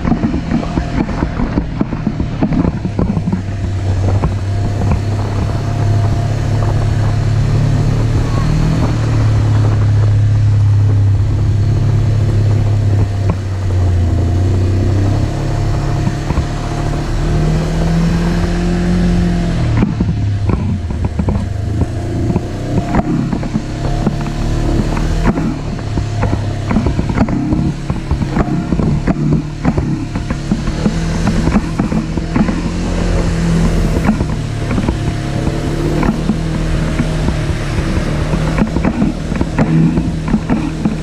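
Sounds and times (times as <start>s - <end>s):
knocks and rattles over rough ground: 0.0s - 41.0s
vehicle engine running: 0.0s - 41.0s.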